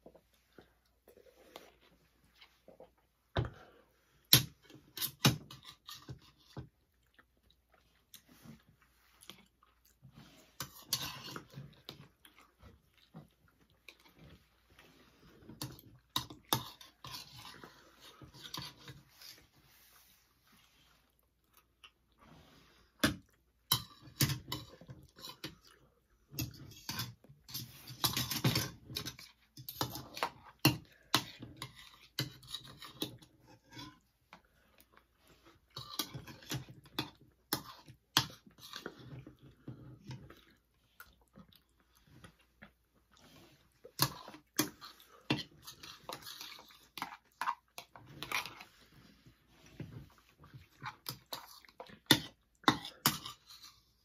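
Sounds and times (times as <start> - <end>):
people chewing and smacking: 0.0 - 19.5, 21.0 - 54.0.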